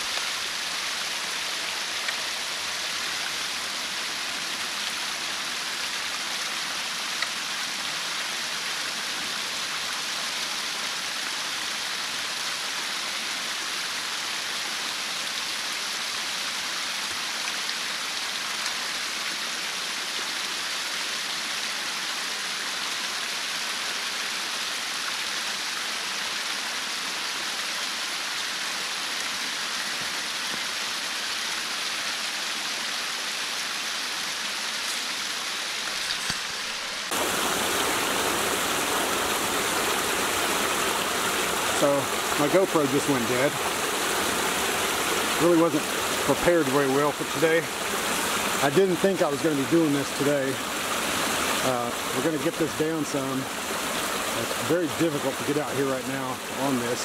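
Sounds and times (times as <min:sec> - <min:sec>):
water rushing through a pipe: 0:00.0 - 0:57.0.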